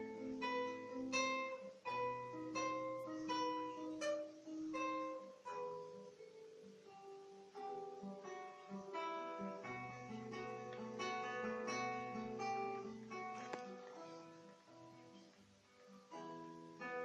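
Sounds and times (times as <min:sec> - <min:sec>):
classical guitar arpeggios: 0:00.0 - 0:17.0.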